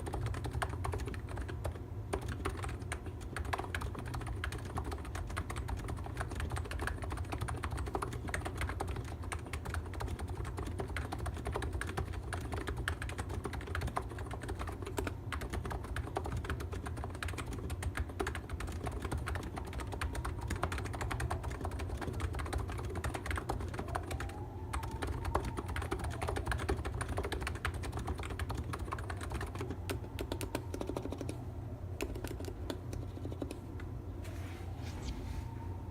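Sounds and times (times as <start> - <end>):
fast keyboard typing: 0.0 - 31.4, 32.0 - 33.7.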